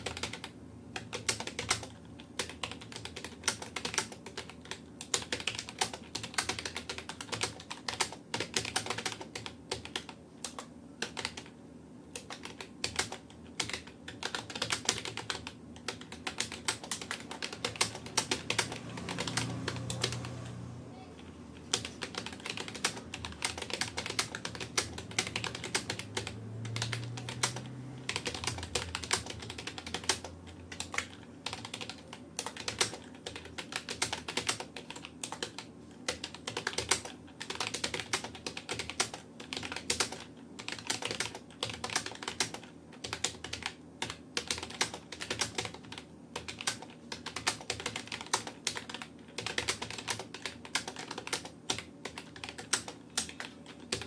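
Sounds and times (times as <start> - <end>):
fast keyboard typing: 0.0 - 20.6, 21.2 - 54.0.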